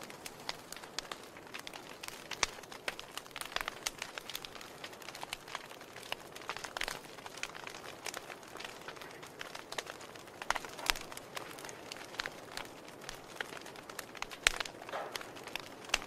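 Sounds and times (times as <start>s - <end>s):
soft fire hiss: 0.0s - 16.0s
wood fire crackling and popping: 0.0s - 16.0s.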